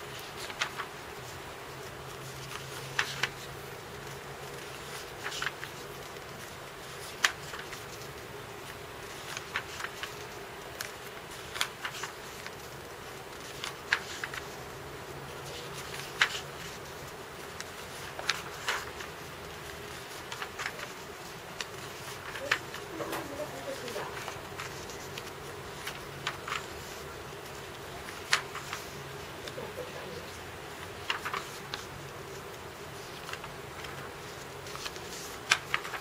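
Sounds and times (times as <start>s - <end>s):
paper pages turning: 0.1s - 36.0s.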